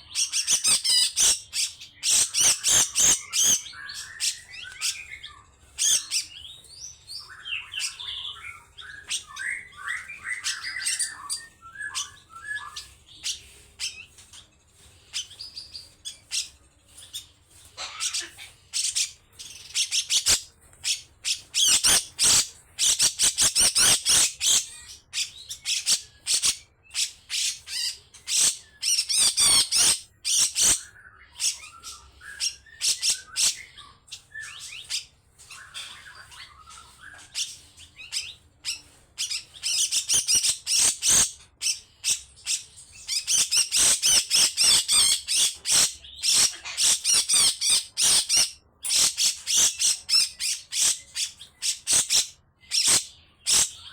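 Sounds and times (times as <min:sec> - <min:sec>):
bird rasping chatter: 0:00.0 - 0:53.9.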